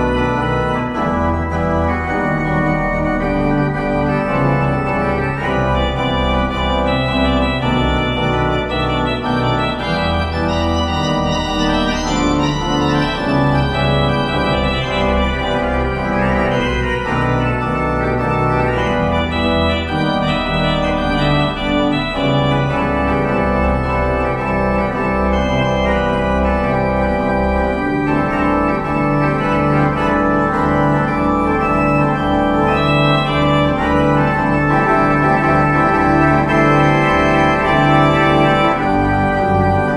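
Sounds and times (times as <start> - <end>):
organ chords: 0.0 - 39.9.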